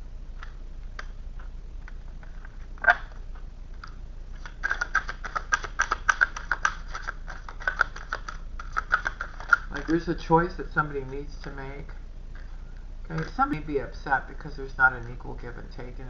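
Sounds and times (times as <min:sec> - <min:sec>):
cards being shuffled by hand: 0:01.8 - 0:16.0.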